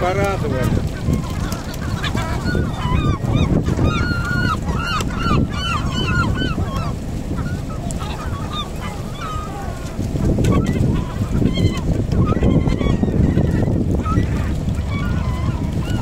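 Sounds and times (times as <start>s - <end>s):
gulls calling: 0.0s - 16.0s
steady low rumble: 0.0s - 16.0s.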